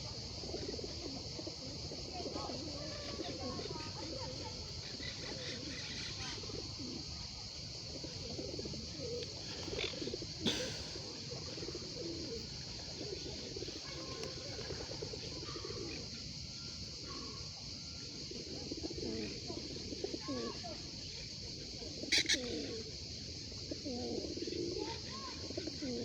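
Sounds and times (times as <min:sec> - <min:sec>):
low wavering bird coos: 0:00.0 - 0:26.0
steady high hiss: 0:00.0 - 0:26.0.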